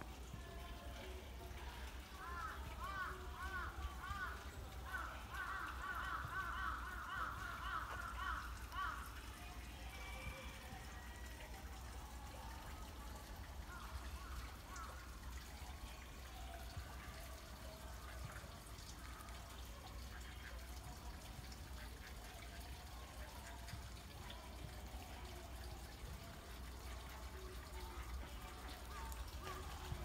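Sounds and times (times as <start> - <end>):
water trickling into pond: 0.0 - 30.0.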